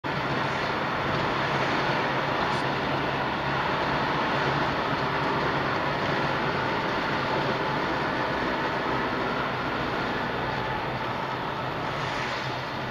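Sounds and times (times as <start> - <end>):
car interior road noise: 0.0 - 12.9.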